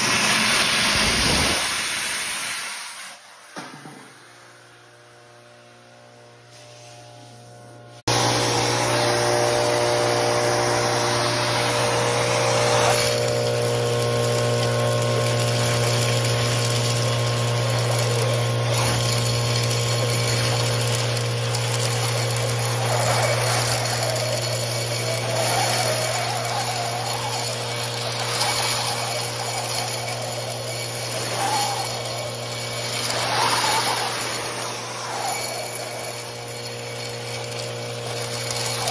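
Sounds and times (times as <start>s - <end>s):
industrial vacuum humming: 0.0s - 38.9s.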